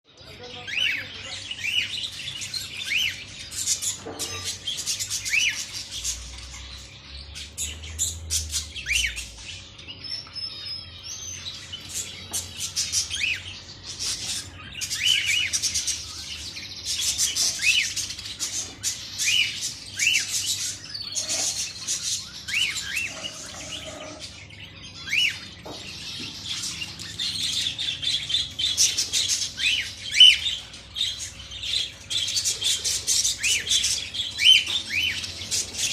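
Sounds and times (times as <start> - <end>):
parrots chirping and chattering: 0.1 - 35.9.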